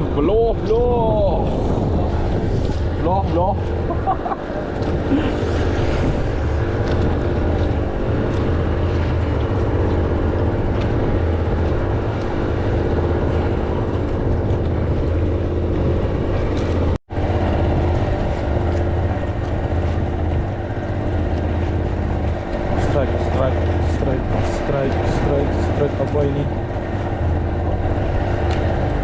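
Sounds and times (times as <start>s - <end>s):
engine humming: 1.8s - 29.0s.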